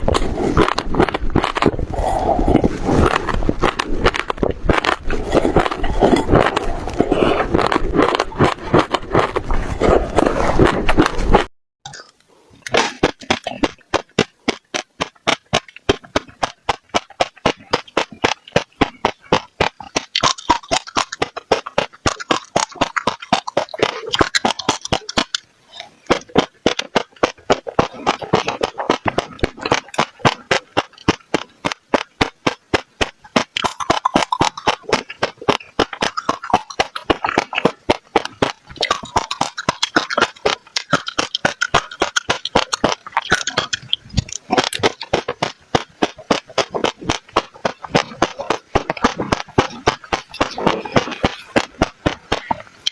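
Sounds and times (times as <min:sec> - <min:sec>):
seeds crunching between teeth: 0:00.0 - 0:52.9
wet chewing sounds: 0:00.0 - 0:52.9.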